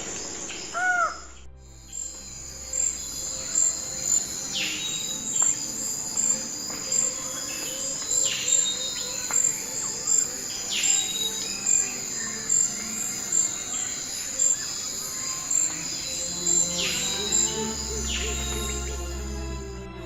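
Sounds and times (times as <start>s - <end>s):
high pulsing insect trill: 0.0s - 20.0s.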